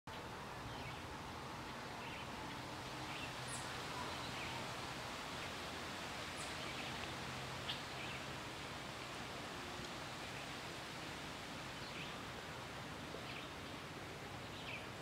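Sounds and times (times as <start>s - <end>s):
outdoor background noise: 0.1s - 15.0s.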